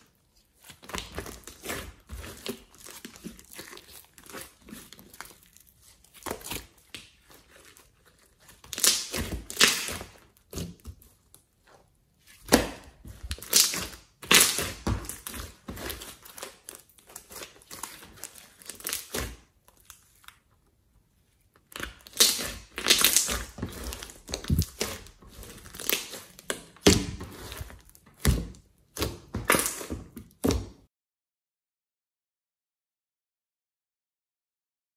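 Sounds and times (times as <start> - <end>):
sticky slime squishing: 0.0 - 30.9.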